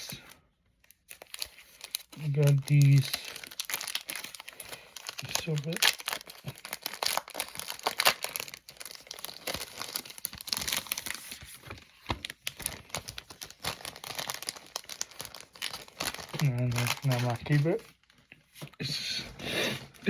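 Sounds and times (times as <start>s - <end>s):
plastic packaging crinkling: 0.0s - 18.7s.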